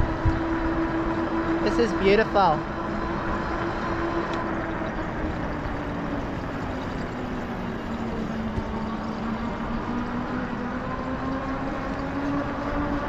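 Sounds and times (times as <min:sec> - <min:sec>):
electric bike motor hum: 0:00.0 - 0:13.0.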